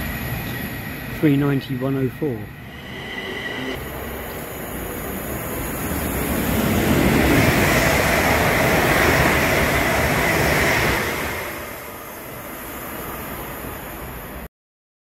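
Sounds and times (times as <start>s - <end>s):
train passing at speed: 0.0s - 14.5s.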